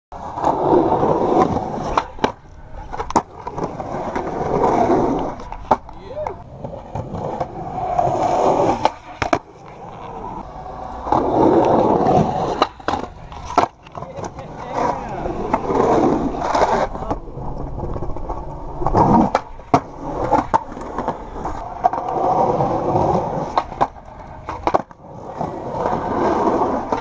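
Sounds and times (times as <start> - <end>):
skateboard wheels rolling on concrete: 0.1 - 27.0
skateboard clacking on ground: 0.2 - 27.0.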